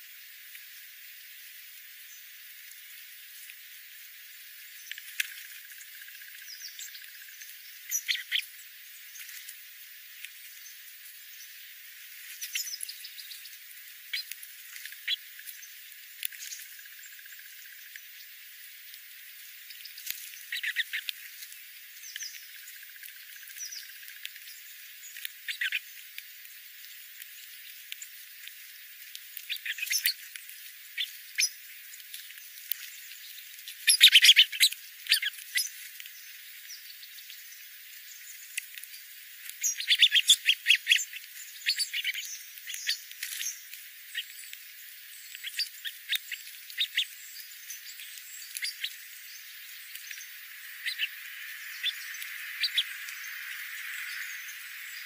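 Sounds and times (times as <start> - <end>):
birds chipping: 4.6 - 55.0
birds pecking clicks: 4.7 - 8.5, 12.1 - 18.1, 18.9 - 37.4, 38.2 - 54.2.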